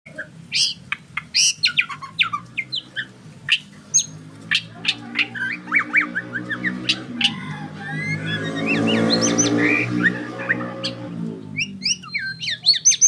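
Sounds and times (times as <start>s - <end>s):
bird singing varied song: 0.1s - 13.0s.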